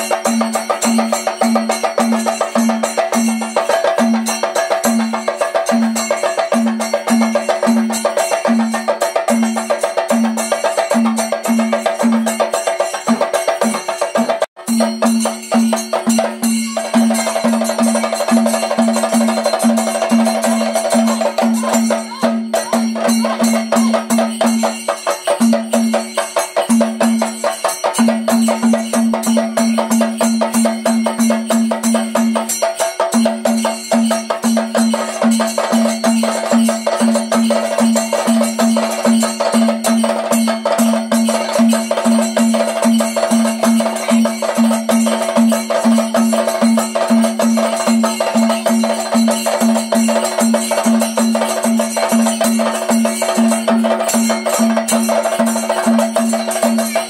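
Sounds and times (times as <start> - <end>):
drums beaten with sticks: 0.0 - 57.0.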